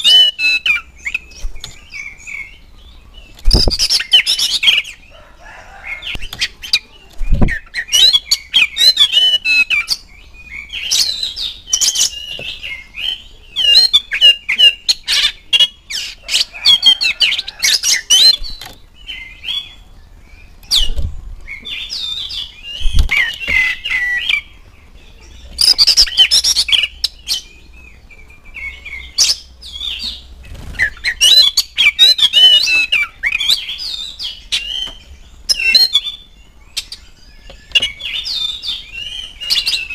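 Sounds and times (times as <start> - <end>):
bird singing whistled notes: 0.0 - 5.0, 6.2 - 39.9.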